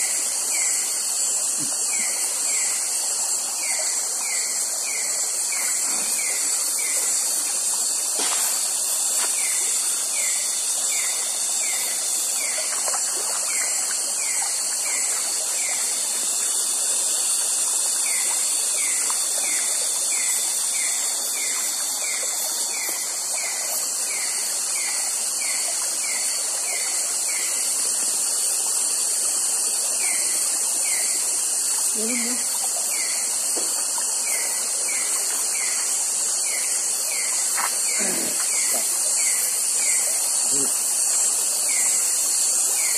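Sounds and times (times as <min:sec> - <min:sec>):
insect high-pitched hiss: 0:00.0 - 0:42.9.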